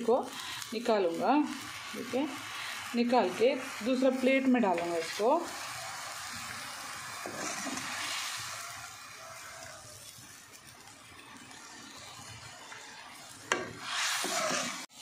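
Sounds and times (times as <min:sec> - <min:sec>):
squid frying in oil: 0:00.0 - 0:15.0.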